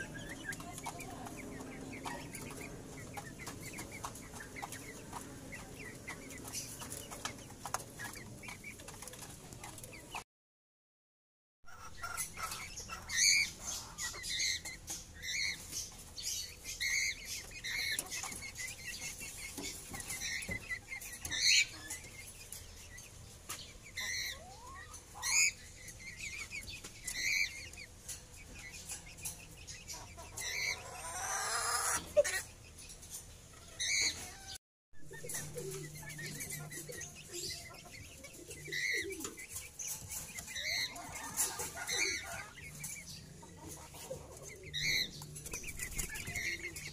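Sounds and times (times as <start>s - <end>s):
chicks cheeping: 0.0s - 10.2s, 11.7s - 46.9s.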